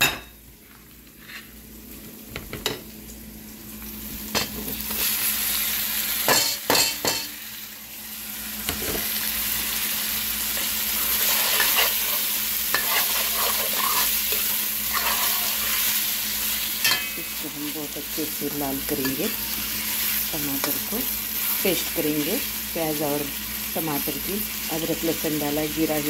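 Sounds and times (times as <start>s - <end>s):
onions sizzling in pan: 0.0s - 26.0s.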